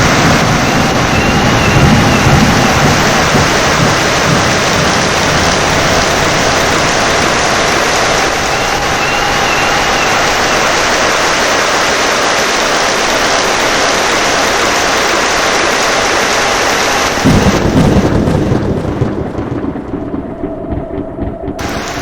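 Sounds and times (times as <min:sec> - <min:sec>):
heavy rain: 0:00.0 - 0:22.0
thunder clap rumbling: 0:00.0 - 0:22.0.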